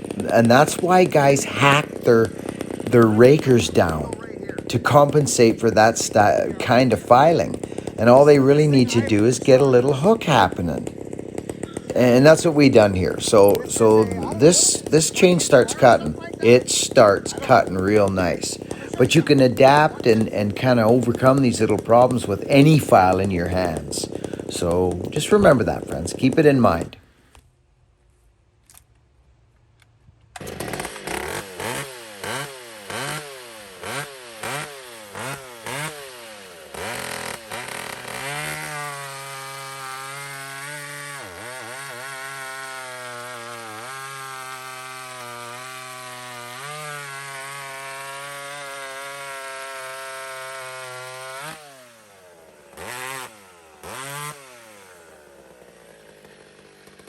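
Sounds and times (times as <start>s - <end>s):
chainsaw revving: 0.0s - 27.3s, 30.3s - 57.0s.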